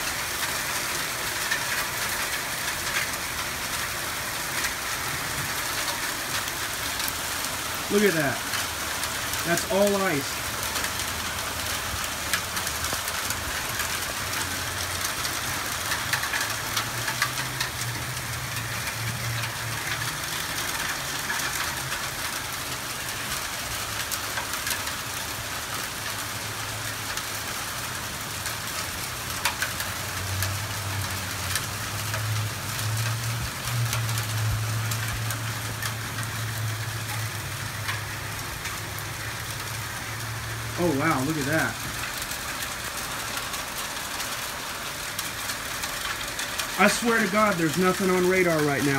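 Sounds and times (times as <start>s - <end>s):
hailstones striking hard surfaces: 0.0s - 48.9s
heavy rain pouring: 0.0s - 48.9s.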